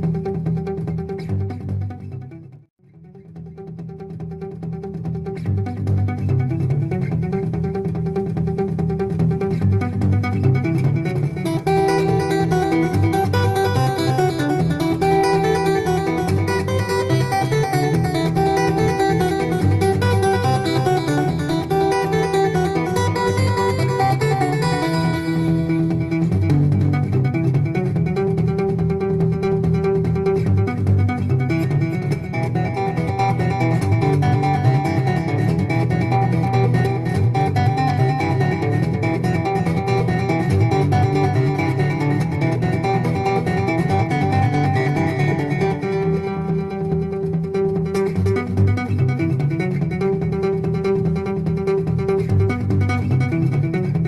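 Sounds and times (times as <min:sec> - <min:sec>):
plucked acoustic guitar: 0:00.0 - 0:54.0.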